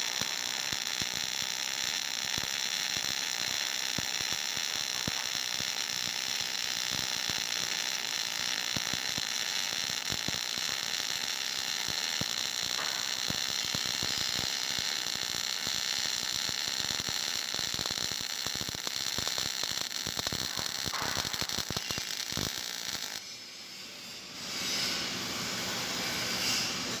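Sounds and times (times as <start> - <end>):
welding arc crackling: 0.0 - 23.3.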